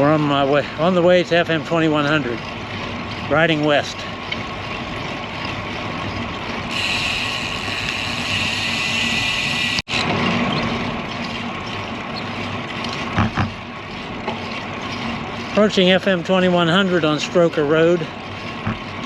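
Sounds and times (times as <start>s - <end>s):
bicycle tyre hum on road: 0.0s - 19.0s.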